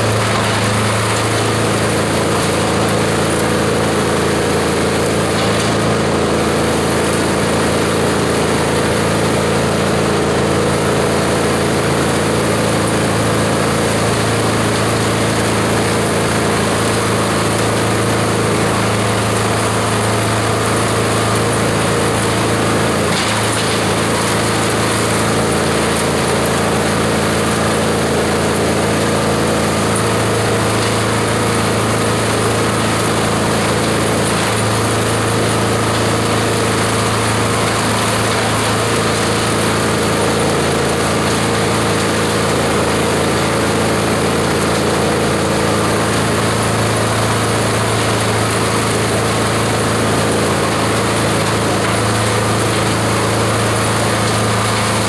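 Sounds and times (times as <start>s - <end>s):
shredder chopping branches: 0.0s - 55.0s.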